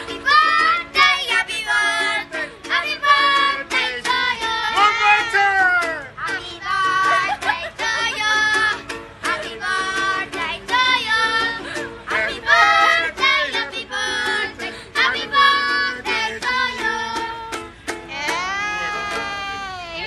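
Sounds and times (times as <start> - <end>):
boy singing in a high voice: 0.0 - 5.4, 6.2 - 20.0.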